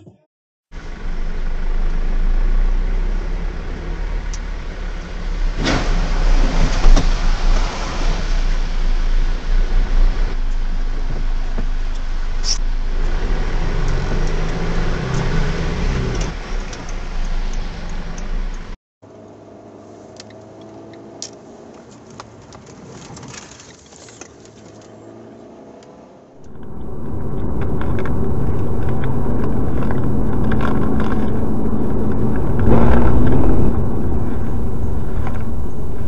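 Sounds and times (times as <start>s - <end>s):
car engine rumble: 0.0s - 23.4s, 25.8s - 36.0s
road noise inside car: 0.7s - 36.0s.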